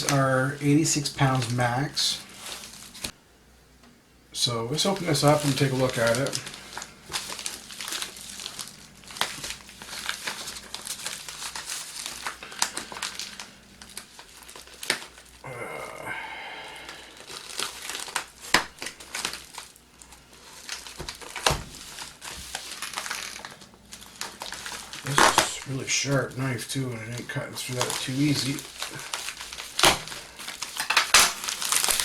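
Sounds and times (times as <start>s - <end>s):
packaging tearing: 0.0s - 3.1s, 4.7s - 16.0s, 16.6s - 32.0s
packaging crinkling and crackling: 0.0s - 3.2s, 4.4s - 32.0s.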